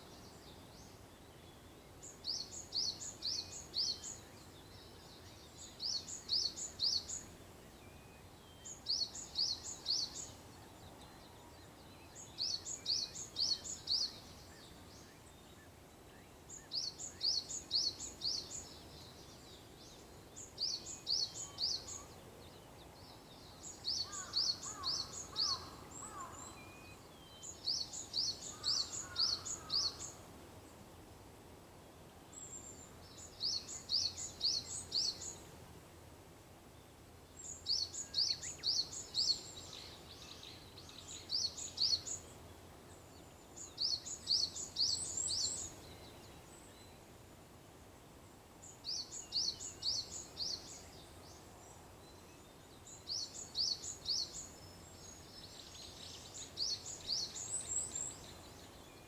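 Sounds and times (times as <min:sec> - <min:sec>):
small songbird singing: 0:00.0 - 0:30.3, 0:32.3 - 0:35.5, 0:37.3 - 0:47.1, 0:48.6 - 0:59.0.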